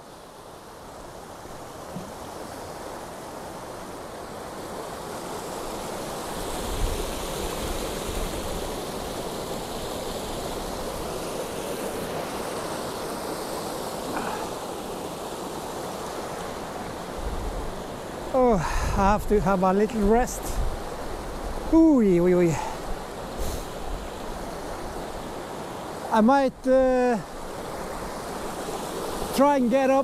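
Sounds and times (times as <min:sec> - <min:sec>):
stream rushing over boulders: 0:00.0 - 0:30.0.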